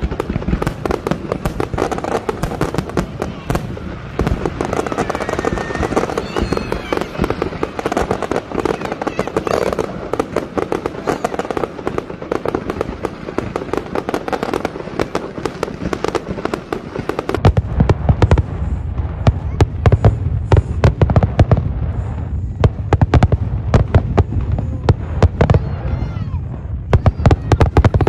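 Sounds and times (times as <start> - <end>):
deep booms of bursting shells: 0.0 - 28.0
fireworks crackling pops and bangs: 0.0 - 28.0.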